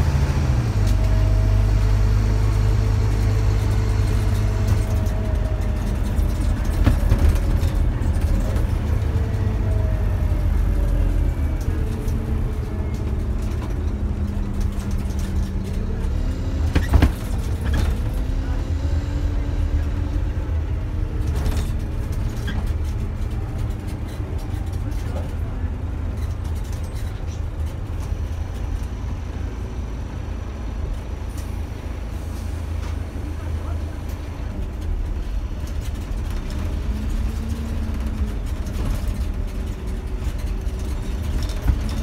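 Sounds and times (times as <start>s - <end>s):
bus engine drone and whine: 0.0s - 42.0s.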